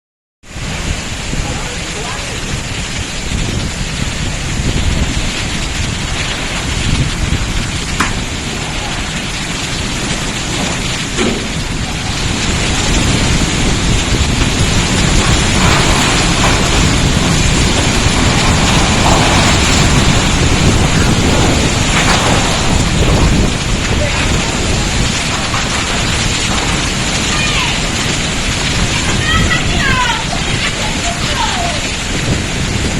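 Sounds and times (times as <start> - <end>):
heavy rain: 0.4 - 32.9
wind on microphone: 0.5 - 32.9.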